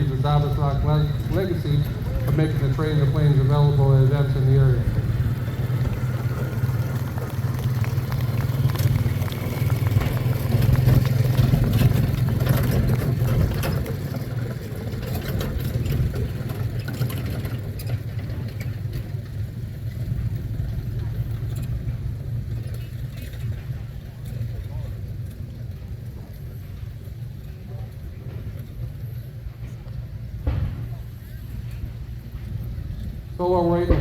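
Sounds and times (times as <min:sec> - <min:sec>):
small vehicle engine running: 0:00.0 - 0:33.6.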